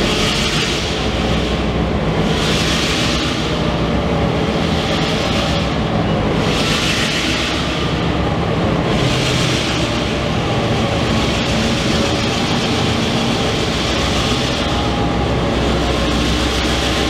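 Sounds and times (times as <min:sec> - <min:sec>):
diesel locomotives droning: 0:00.0 - 0:17.0.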